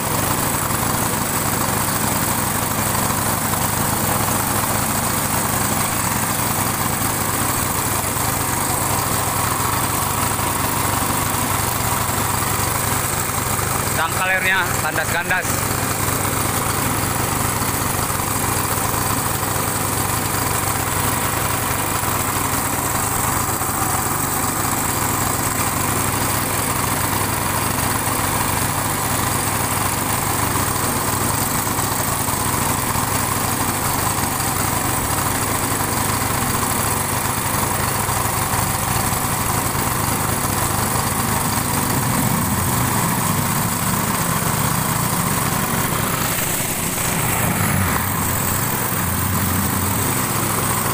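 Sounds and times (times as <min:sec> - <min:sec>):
small boat engine running: 0:00.0 - 0:50.9.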